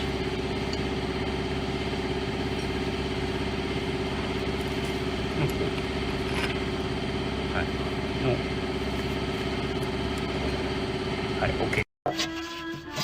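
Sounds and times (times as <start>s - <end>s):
mechanical motor hum: 0.0s - 11.8s.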